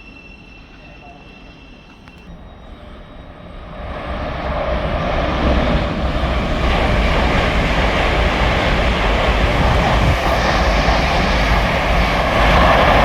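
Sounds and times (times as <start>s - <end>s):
train rumble and rush: 0.0s - 13.0s.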